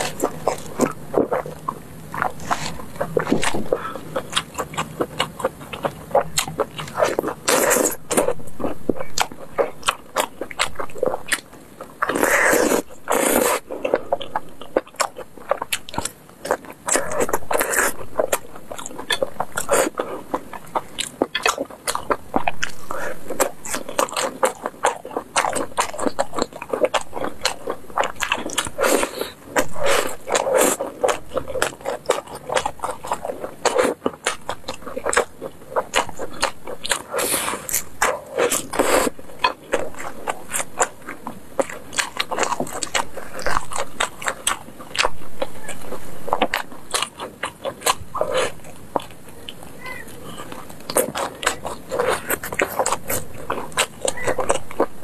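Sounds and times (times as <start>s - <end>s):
biting and chewing food: 0.0s - 55.0s.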